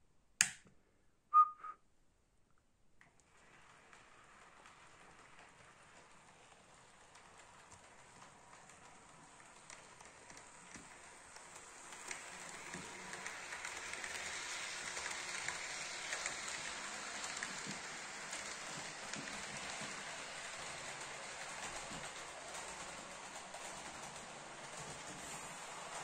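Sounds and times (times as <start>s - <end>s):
model train wheels clicking on rails: 3.1s - 26.0s.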